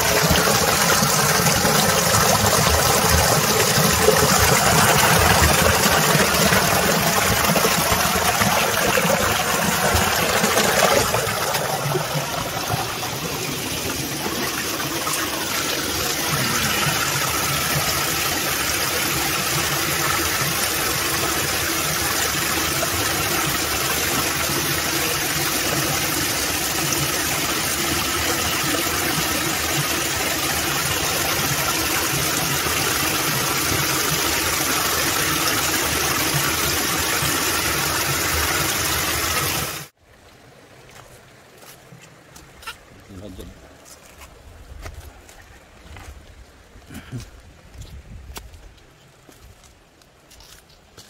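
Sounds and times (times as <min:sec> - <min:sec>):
rushing water: 0:00.0 - 0:51.0.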